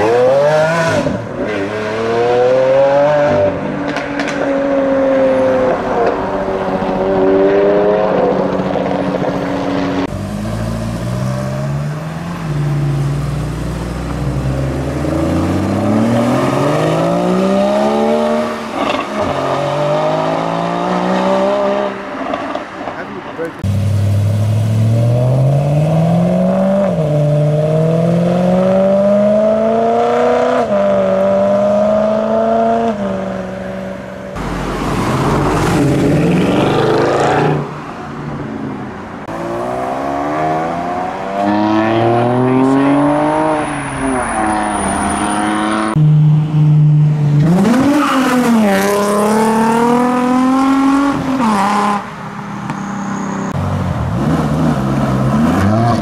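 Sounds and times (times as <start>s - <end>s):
cars accelerating hard: 0.0s - 56.0s.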